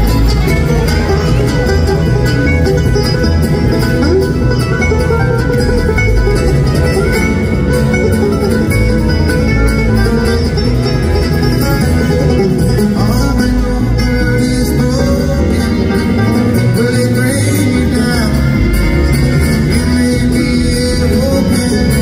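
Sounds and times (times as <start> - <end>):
banjo: 0.0 - 22.0
bluegrass band playing: 0.0 - 22.0.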